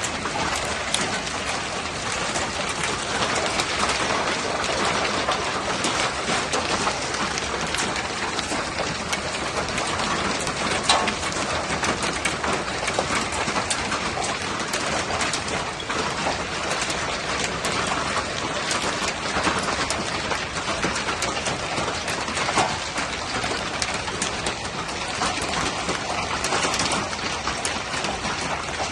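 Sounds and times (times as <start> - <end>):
hailstones pelting down: 0.0 - 28.9
sharp loud hail hits: 0.0 - 28.9.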